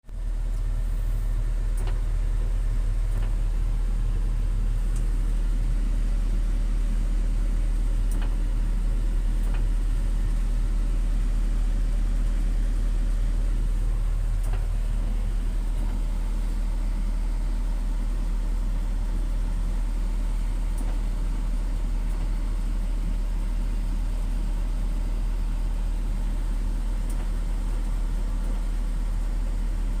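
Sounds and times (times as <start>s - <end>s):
diesel engine humming steadily: 0.1s - 30.0s.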